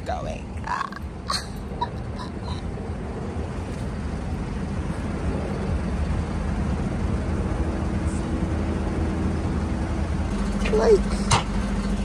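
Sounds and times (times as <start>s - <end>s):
faint steady whine: 0.0s - 12.0s
truck engine humming: 0.0s - 12.0s.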